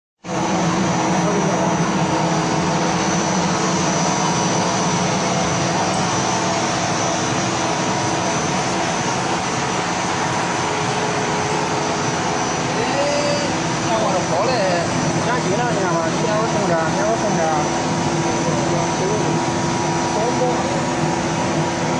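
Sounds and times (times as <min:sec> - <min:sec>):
high machine whine: 0:00.2 - 0:21.9
machine drone: 0:00.2 - 0:21.9.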